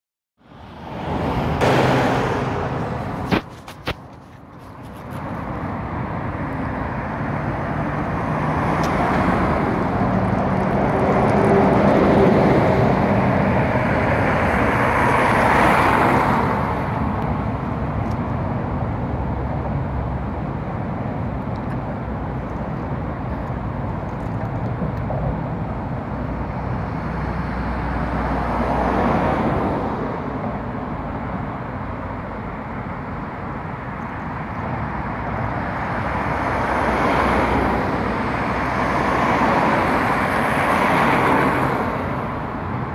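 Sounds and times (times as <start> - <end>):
vehicles passing on road: 0.4 - 42.9.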